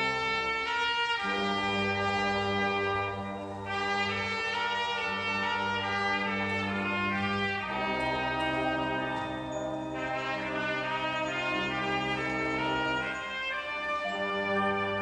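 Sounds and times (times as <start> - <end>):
brass band playing held chords: 0.0 - 15.0.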